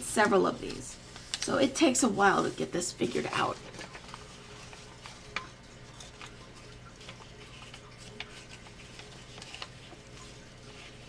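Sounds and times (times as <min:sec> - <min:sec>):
paper being folded: 0:00.0 - 0:11.0.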